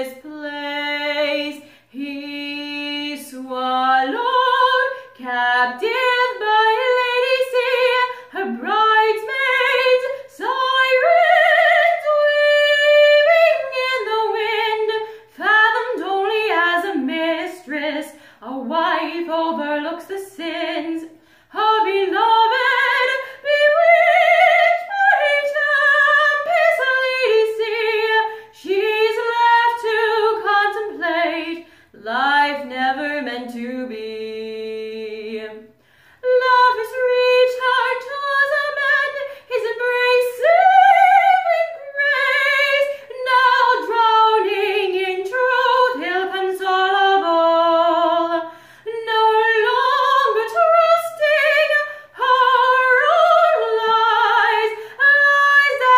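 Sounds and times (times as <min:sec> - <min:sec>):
woman singing a cappella: 0:00.0 - 0:55.9.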